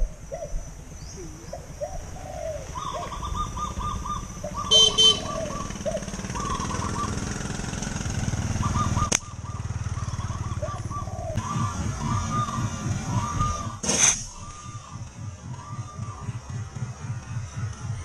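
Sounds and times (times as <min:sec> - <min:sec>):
doves cooing: 0:00.0 - 0:18.0
low steady rumble: 0:00.0 - 0:18.0.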